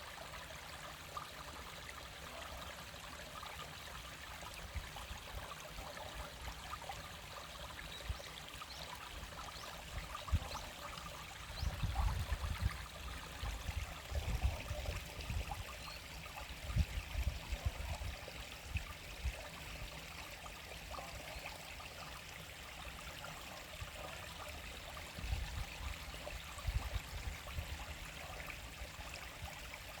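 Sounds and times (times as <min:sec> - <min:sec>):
stream babbling over stones: 0:00.0 - 0:30.0.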